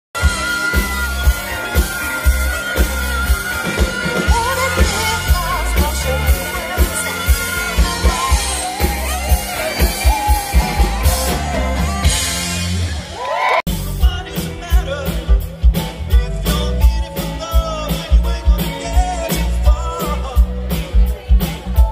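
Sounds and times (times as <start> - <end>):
lead singer: 0.2 - 21.9
live soft-rock band: 0.2 - 21.9.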